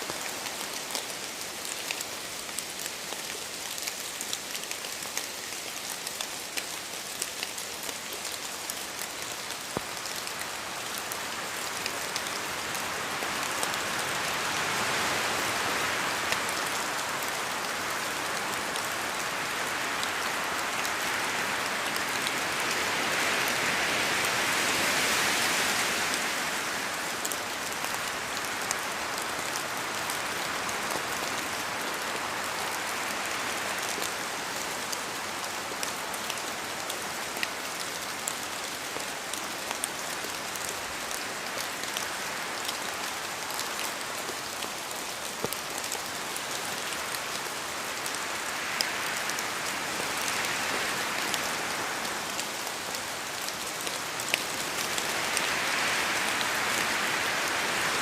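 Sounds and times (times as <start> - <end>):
raindrops pattering from trees: 0.0 - 58.0
wind gust in trees: 8.4 - 58.0.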